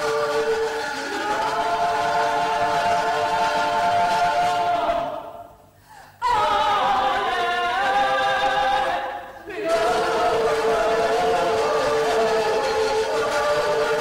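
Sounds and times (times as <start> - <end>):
group singing a cappella: 0.0 - 5.6, 6.2 - 14.0.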